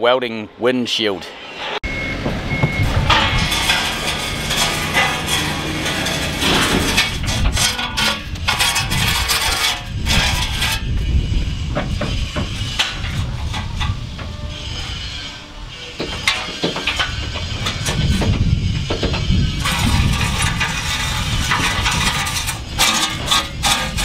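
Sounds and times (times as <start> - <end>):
ladder being dragged: 1.5 - 24.0
metal ladders clanking: 1.9 - 10.9, 11.8 - 24.0.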